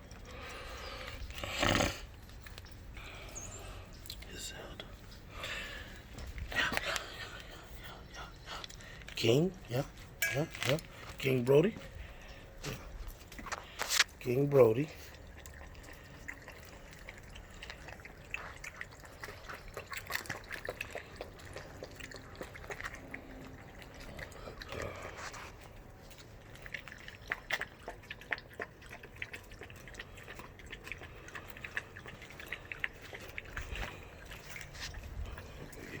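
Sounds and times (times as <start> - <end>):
dogs wet mouth smacking: 0.0 - 36.0.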